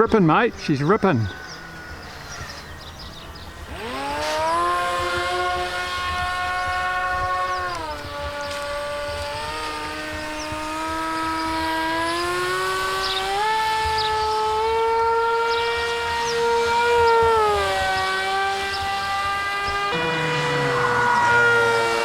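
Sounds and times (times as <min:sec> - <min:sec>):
model plane motor whining: 0:00.0 - 0:22.0.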